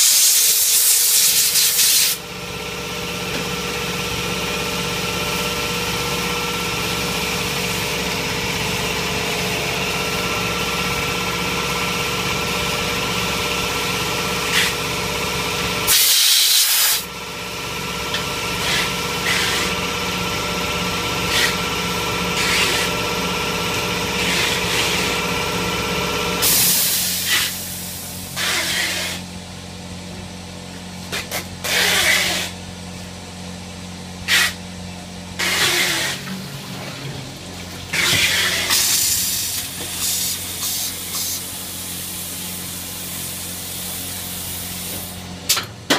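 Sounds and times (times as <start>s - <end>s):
machine hum: 2.2s - 16.0s, 17.0s - 45.9s.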